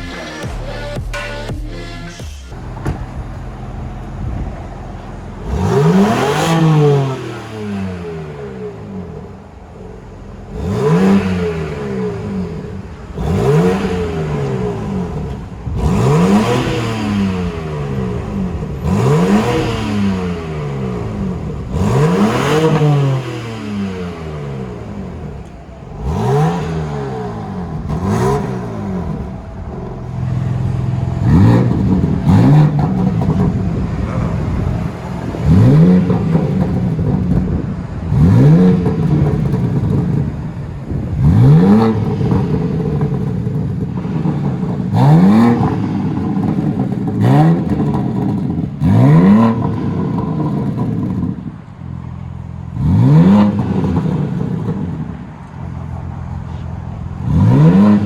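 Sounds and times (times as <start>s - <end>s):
car exhaust revving in sharp blips: 0.0s - 58.0s.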